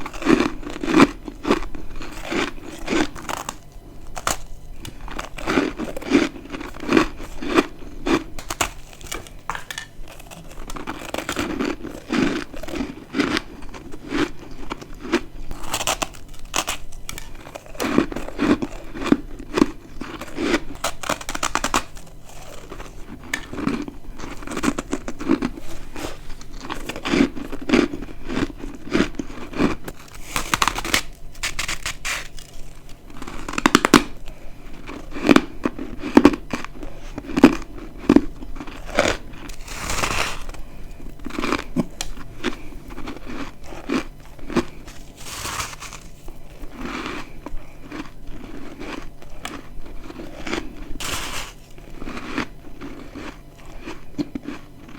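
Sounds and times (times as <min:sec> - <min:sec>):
chewing crunchy frost: 0:00.0 - 0:54.9.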